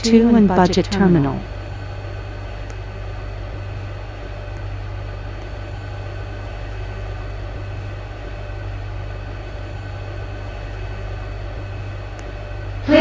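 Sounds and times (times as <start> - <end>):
low hum inside train car: 0.0 - 13.0.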